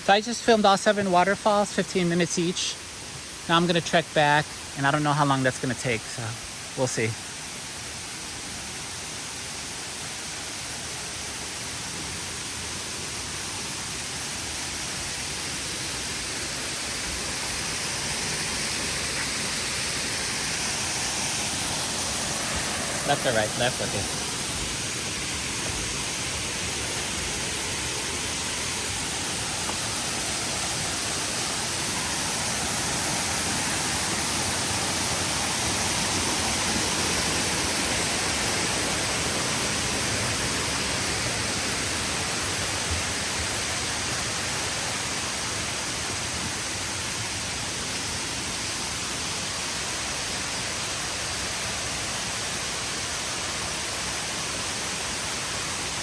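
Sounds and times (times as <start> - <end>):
rushing water of waterfall: 0.0 - 56.0.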